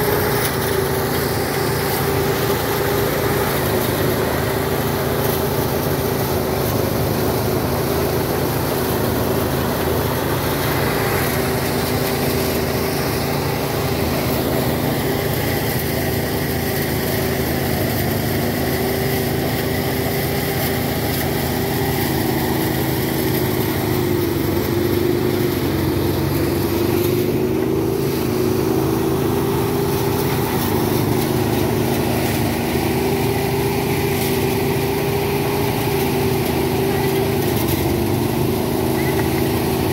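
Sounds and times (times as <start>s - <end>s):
rice thresher engine running: 0.0s - 39.9s.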